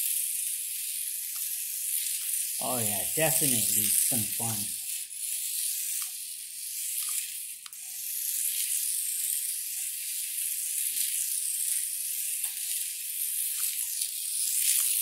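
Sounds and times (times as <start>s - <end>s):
toy car motor whirring: 0.0s - 15.0s.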